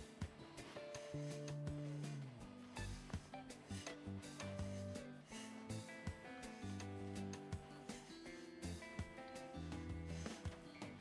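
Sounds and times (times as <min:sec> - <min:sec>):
upbeat music with strummed guitar: 0:00.0 - 0:11.0.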